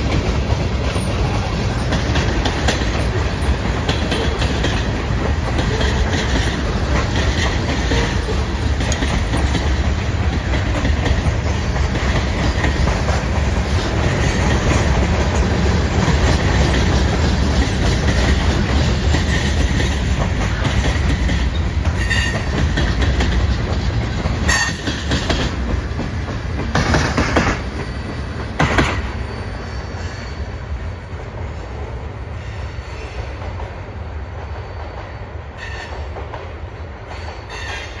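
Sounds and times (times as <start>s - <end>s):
train wheels rolling on rails: 0.0s - 38.0s.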